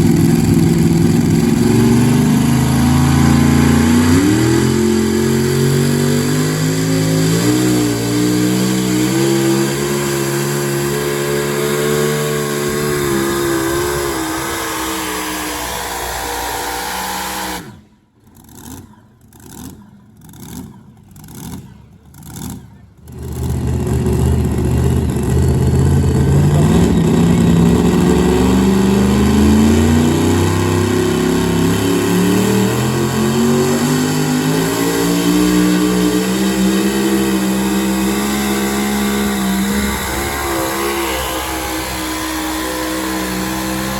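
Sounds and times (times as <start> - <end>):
pulling truck engine revving: 0.0 - 19.8, 20.4 - 43.9.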